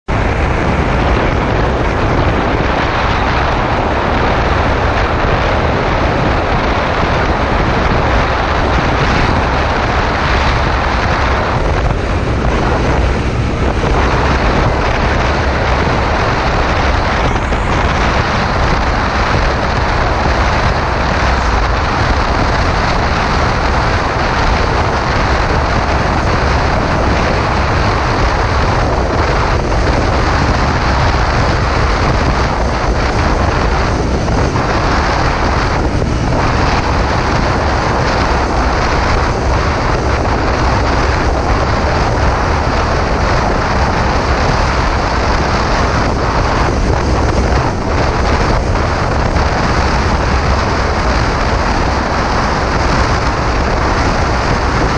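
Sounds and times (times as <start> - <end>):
motorcycle engine: 0.0 - 54.9
wind on microphone: 0.0 - 54.9.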